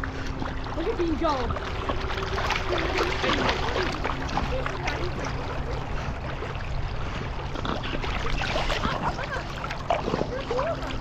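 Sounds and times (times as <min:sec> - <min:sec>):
low rumble of water: 0:00.0 - 0:11.0
water splashing and lapping: 0:00.0 - 0:11.0.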